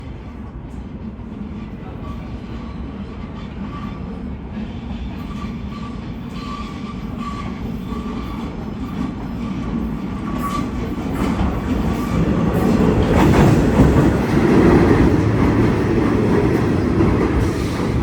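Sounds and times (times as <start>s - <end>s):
subway train rumbling on rails: 0.0s - 18.0s.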